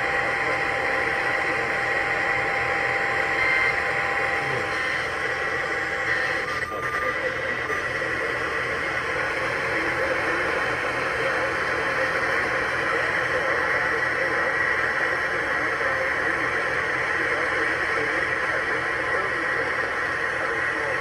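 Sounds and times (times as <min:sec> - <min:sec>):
radio static hiss: 0:00.2 - 0:21.0.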